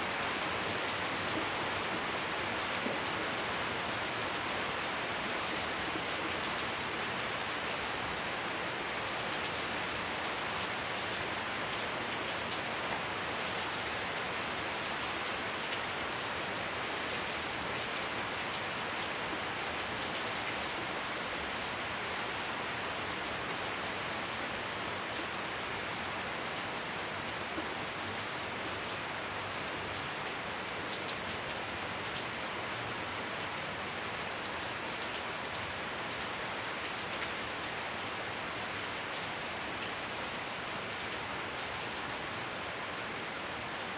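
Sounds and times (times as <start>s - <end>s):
heavy rain on concrete: 0.0s - 43.9s.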